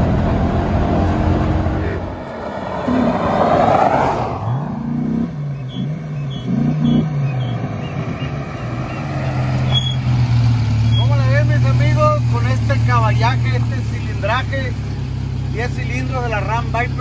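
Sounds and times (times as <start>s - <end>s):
pickup truck engine approaching: 0.0s - 17.0s.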